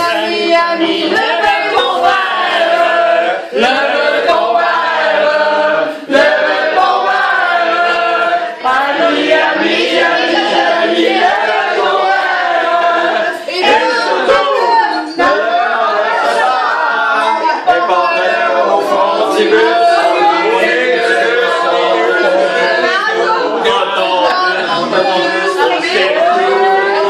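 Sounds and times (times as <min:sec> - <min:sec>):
group singing in chorus: 0:00.0 - 0:27.0.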